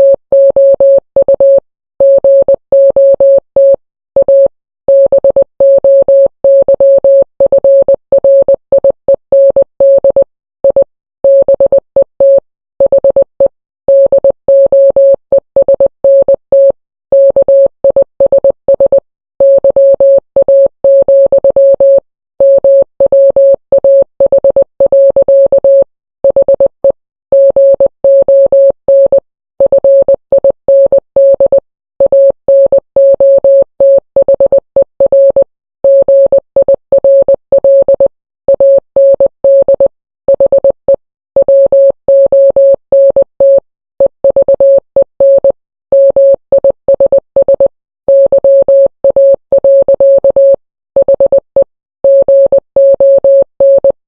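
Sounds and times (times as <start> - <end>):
morse code beeps: 0.0 - 54.0.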